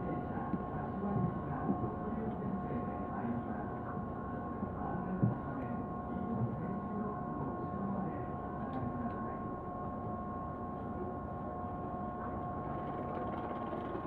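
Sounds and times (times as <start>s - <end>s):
low rumble of train equipment: 0.0s - 14.0s.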